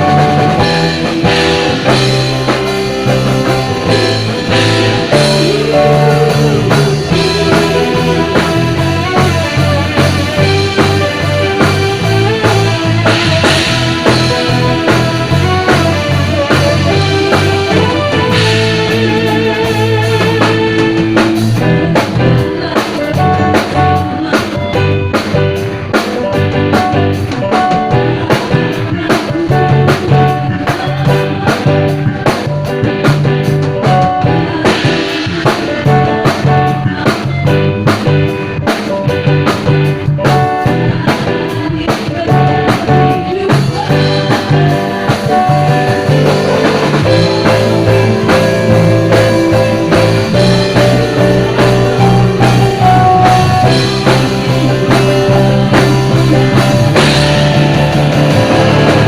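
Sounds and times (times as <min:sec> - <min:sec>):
drum kit steady beat: 0:00.0 - 0:59.0
worship band music: 0:00.0 - 0:59.0.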